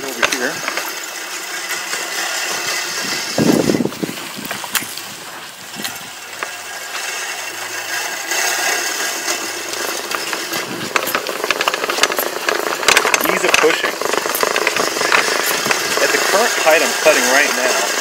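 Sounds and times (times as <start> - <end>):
mower bump: 0.0 - 18.0
mower rattle and ticks: 0.0 - 18.0
reel mower blades whirring: 0.0 - 18.0.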